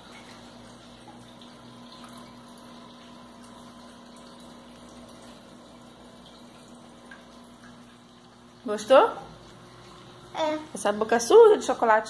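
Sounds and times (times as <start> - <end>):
aquarium filter pump hum: 0.0 - 12.0
moving water: 0.0 - 12.0.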